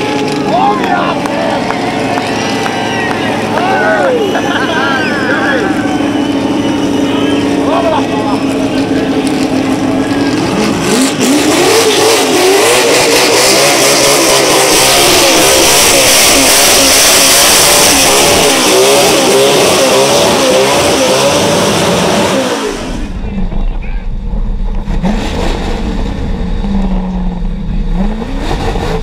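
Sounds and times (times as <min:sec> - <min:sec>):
engine revving hard: 0:00.0 - 0:23.2, 0:24.8 - 0:29.0.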